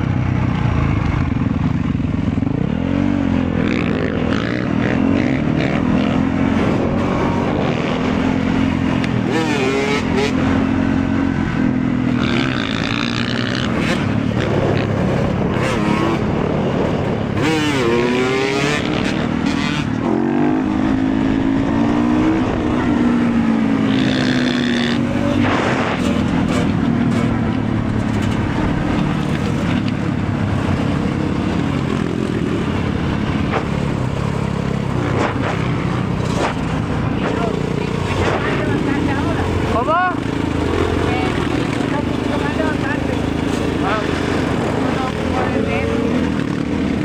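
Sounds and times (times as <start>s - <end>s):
motorcycle engine running: 0.0s - 47.0s
road and wind noise: 0.0s - 47.0s.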